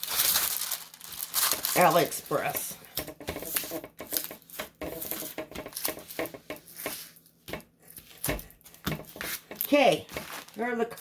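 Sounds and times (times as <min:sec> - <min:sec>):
plastic packaging rustling: 0:00.0 - 0:07.3, 0:08.6 - 0:11.0.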